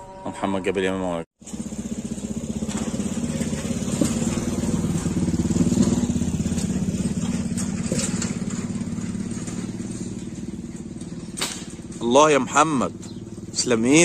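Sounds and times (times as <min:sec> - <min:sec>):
small engine idling: 0:01.4 - 0:14.0.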